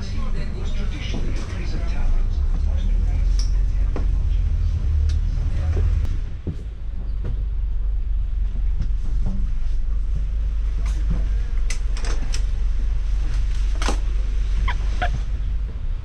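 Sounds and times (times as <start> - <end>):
bus engine low rumble: 0.0 - 16.0.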